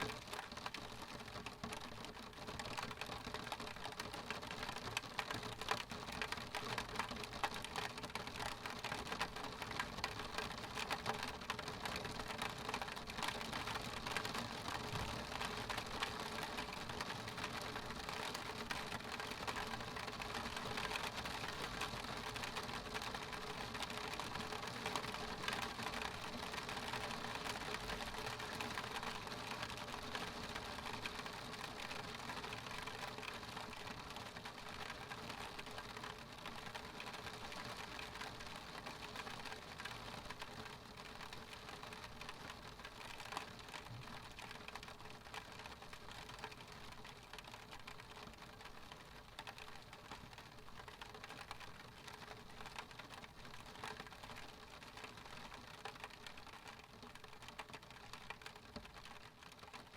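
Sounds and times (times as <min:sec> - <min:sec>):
rain pattering on window: 0:00.0 - 0:59.9.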